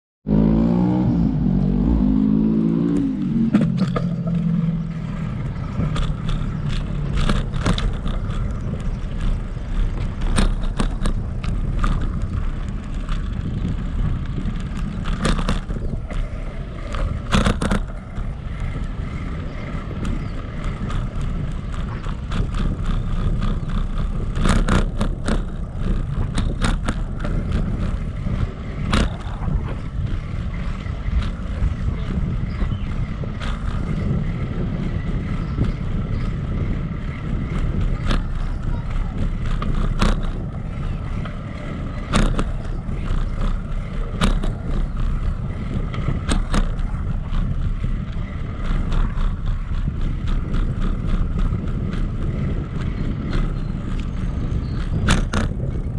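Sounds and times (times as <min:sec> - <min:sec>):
bike tyres rumbling: 0:00.3 - 0:55.9
wind on microphone: 0:00.3 - 0:55.9
clicks and rattles over cracks: 0:02.7 - 0:55.9.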